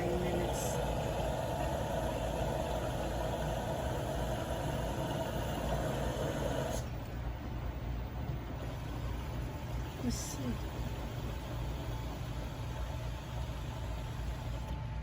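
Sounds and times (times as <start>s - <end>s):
washing machine low hum: 0.0s - 15.0s
washing machine rushing noise: 0.0s - 15.0s.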